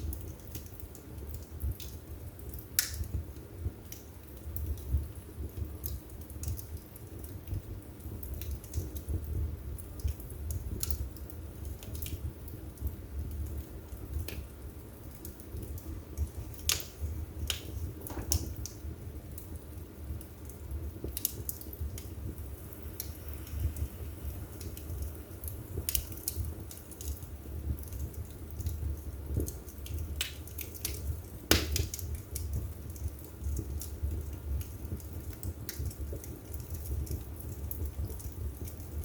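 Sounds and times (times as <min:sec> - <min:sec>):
low rumble of flame: 0:00.0 - 0:39.0
wood fire crackling and popping: 0:00.0 - 0:39.0.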